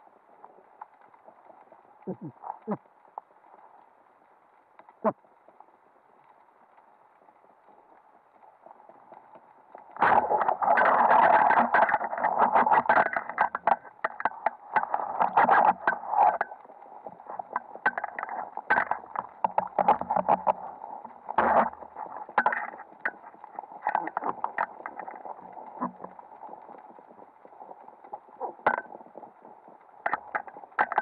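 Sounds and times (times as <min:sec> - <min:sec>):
underwater clattering and crackling: 0:00.0 - 0:31.0.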